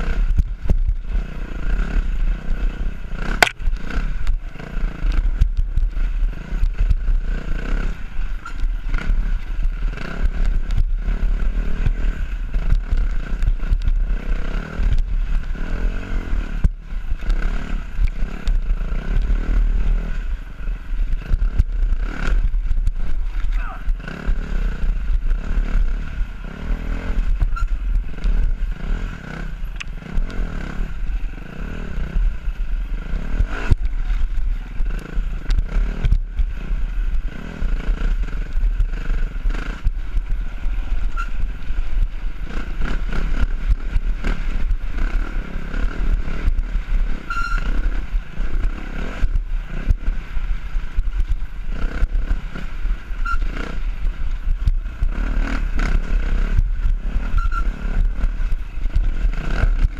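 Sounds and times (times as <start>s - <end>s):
dirt bike engine revving: 0.0s - 59.9s
wind rumbling on microphone: 0.0s - 59.9s.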